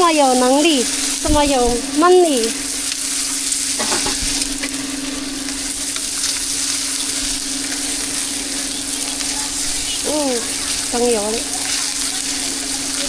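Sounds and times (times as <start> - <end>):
food frying with sizzle: 0.0 - 13.0
steady hum: 0.0 - 13.0.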